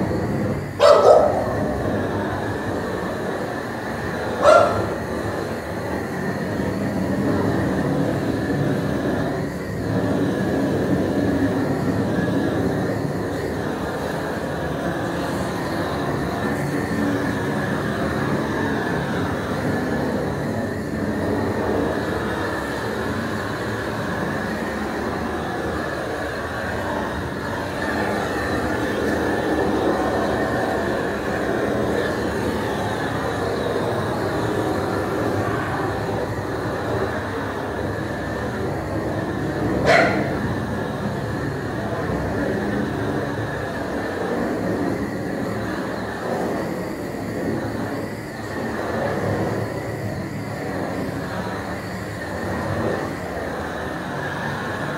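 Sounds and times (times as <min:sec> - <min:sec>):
gas flame torch burning: 0:00.0 - 0:54.9.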